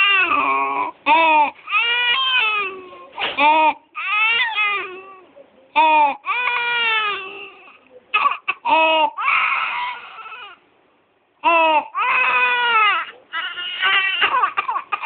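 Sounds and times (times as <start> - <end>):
baby crying: 0.0 - 10.6, 11.4 - 15.0.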